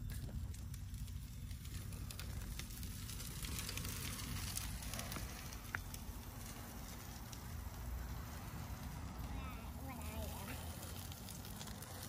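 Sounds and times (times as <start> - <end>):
bicycle tyres rolling on concrete: 0.0 - 12.0.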